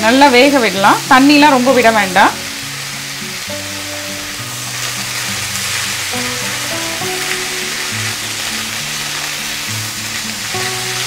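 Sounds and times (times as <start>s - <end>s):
chickpeas sizzling in oil: 0.0s - 11.0s
soft background music: 0.0s - 11.0s.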